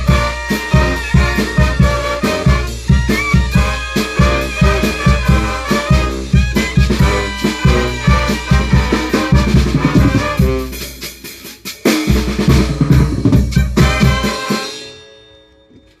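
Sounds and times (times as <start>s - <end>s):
bass drum and snare beat: 0.0s - 14.8s
brass band playing: 0.0s - 15.3s.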